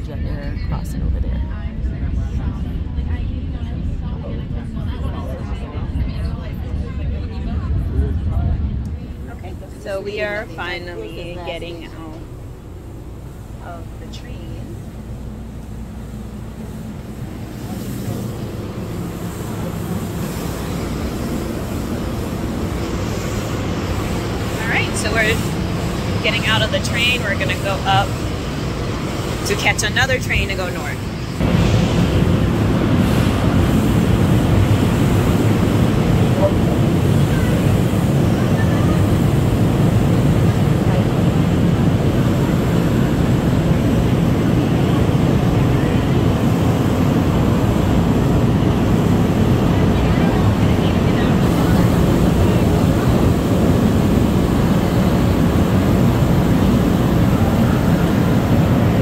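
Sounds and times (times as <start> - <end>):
train car rumble and hum: 0.0 - 59.0.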